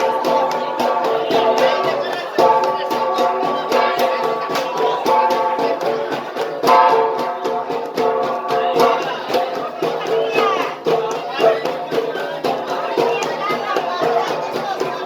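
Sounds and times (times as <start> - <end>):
bronze gongs struck in rhythm: 0.0 - 15.0.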